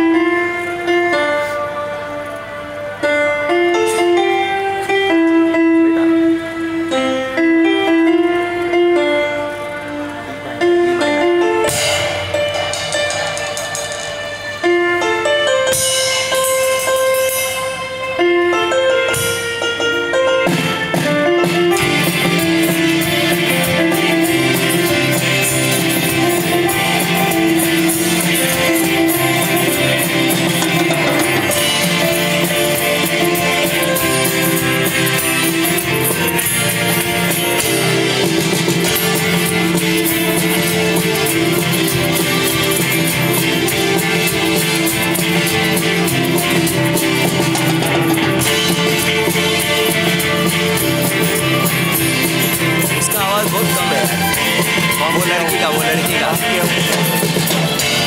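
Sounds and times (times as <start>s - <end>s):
live instrumental band music: 0.0s - 58.0s.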